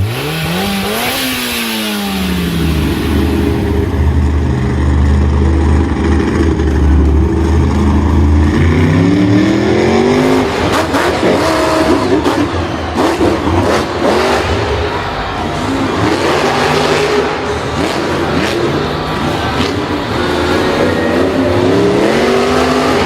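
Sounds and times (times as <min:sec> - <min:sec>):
vehicle engine revving: 0:00.0 - 0:23.0
engine knocks and clatter: 0:02.5 - 0:23.0.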